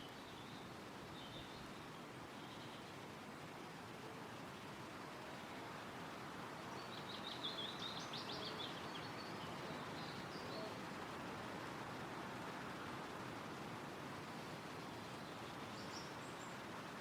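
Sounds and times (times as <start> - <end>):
songbird singing: 0.0 - 3.4, 4.0 - 13.6, 14.3 - 17.0
wind rustling through trees: 0.0 - 17.0.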